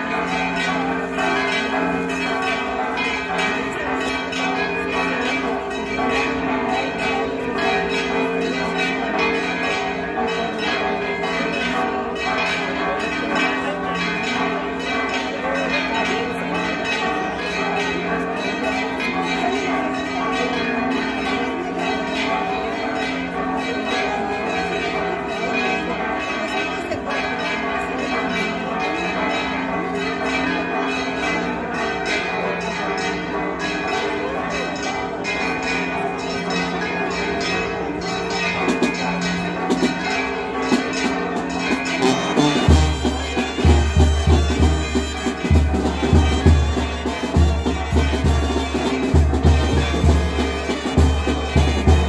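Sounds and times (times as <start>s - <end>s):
church bells pealing: 0.0s - 52.0s.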